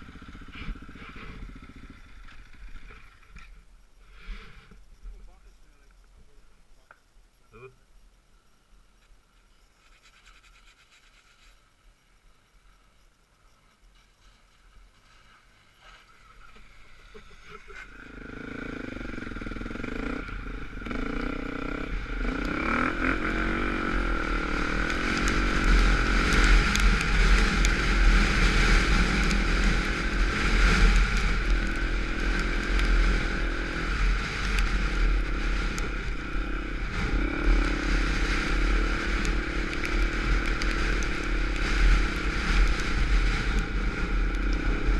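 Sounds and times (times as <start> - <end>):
dirt bike engine: 0.0 - 5.6, 9.8 - 44.9.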